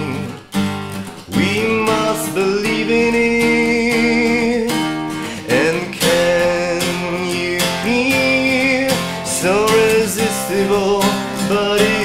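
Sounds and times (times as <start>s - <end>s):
man singing: 0.0s - 0.5s, 1.2s - 12.0s
acoustic guitar strumming: 0.0s - 12.0s.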